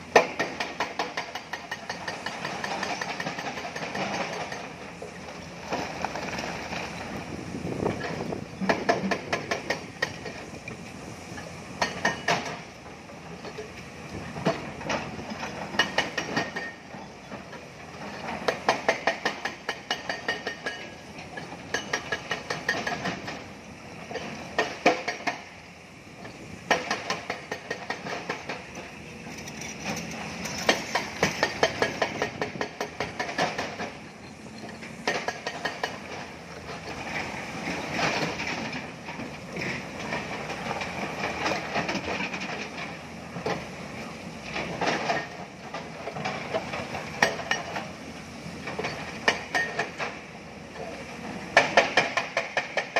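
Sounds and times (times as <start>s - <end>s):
excavator metallic clanking: 0.0s - 52.9s.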